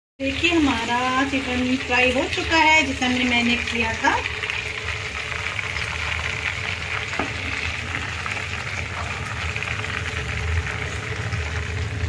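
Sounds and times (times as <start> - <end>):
chicken deep-frying in oil: 0.2 - 12.0.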